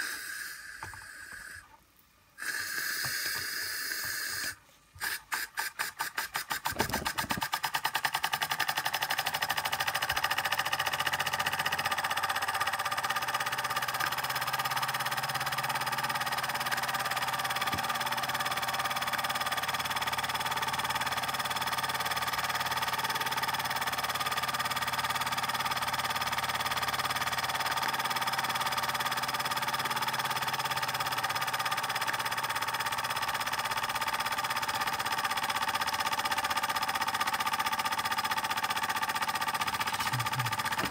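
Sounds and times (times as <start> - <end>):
toy steam engine chuffing: 0.0 - 1.8, 2.4 - 40.9.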